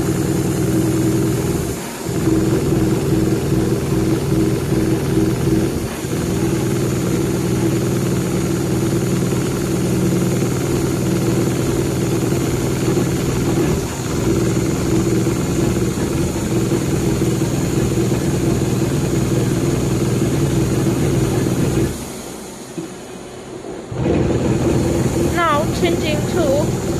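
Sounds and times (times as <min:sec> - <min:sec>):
perforation machine mechanical drone: 0:00.0 - 0:26.9.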